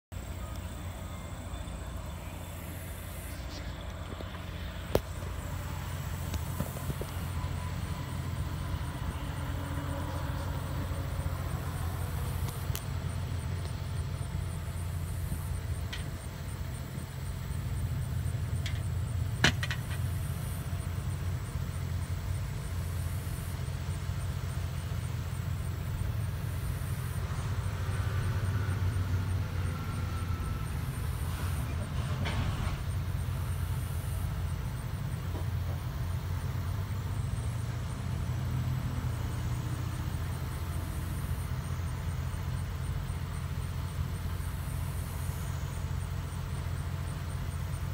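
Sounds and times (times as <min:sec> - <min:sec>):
truck engine idling: 0:00.0 - 0:47.9.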